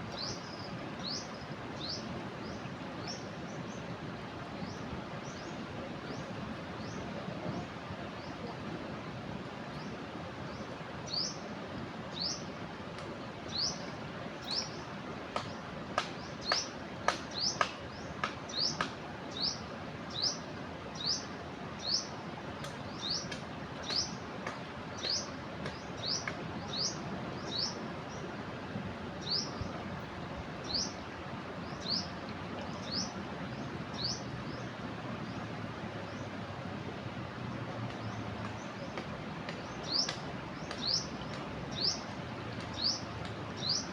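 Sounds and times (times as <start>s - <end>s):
river rushing: 0.0s - 43.9s.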